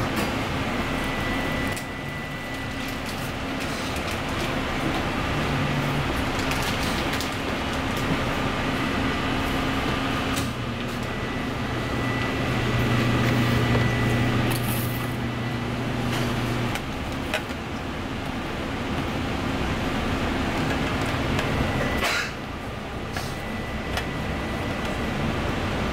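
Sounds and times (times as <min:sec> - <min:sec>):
kitchen machinery hum: 0:00.0 - 0:25.9.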